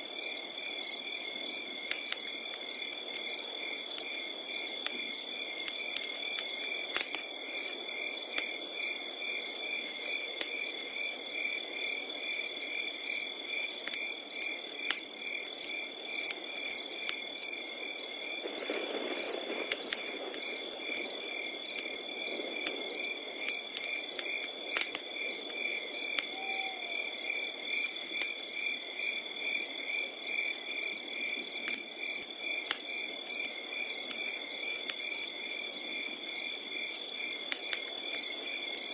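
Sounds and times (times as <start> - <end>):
campfire crackling and popping: 0.0 - 38.9
crickets chirping: 0.0 - 38.9
low hiss of burning: 0.0 - 38.9.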